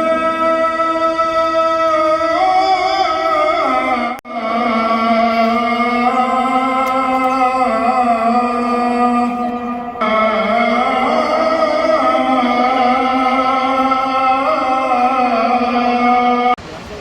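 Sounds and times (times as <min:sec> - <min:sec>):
man chanting call to prayer: 0:00.0 - 0:16.6.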